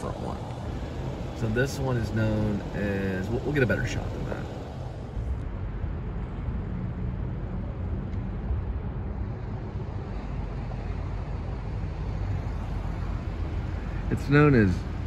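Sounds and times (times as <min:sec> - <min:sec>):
road traffic rumbling: 0:00.0 - 0:15.0.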